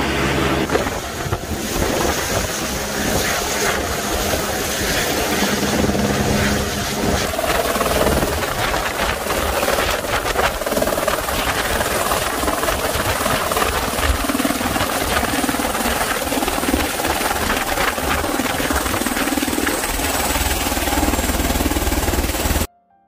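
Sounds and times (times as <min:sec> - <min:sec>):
helicopter rotor and turbine: 0:00.0 - 0:22.7.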